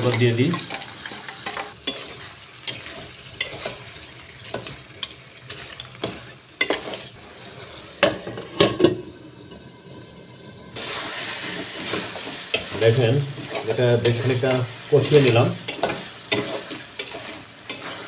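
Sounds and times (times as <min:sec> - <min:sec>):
metal spatula scraping pan: 0:00.0 - 0:09.0, 0:10.8 - 0:18.0
crab sizzling in wok: 0:00.0 - 0:18.0.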